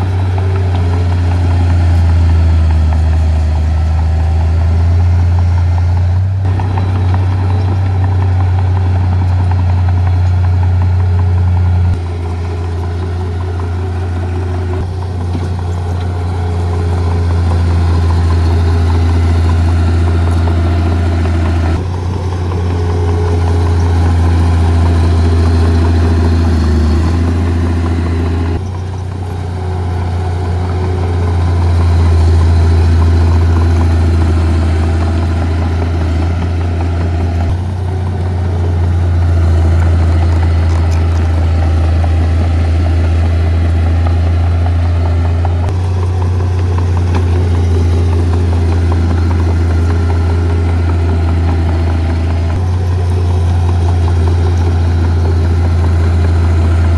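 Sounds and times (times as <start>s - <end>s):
heavy diesel machinery engine hum: 0.0s - 56.9s.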